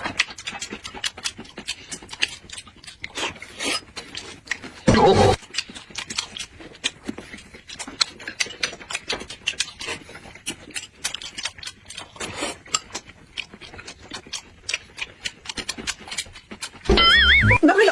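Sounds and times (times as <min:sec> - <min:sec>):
people chewing and lip smacking: 0:00.0 - 0:17.9.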